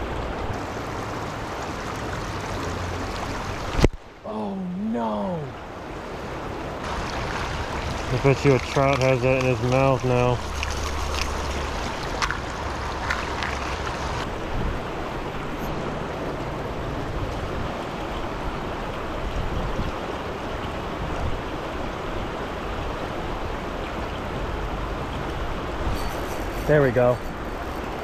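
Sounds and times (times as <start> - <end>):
river water flowing: 0.0 - 28.0.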